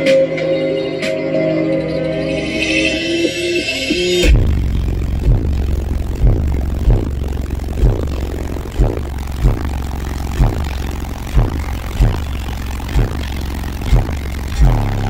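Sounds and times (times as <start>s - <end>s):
bass-heavy music through subwoofers: 0.0s - 15.0s.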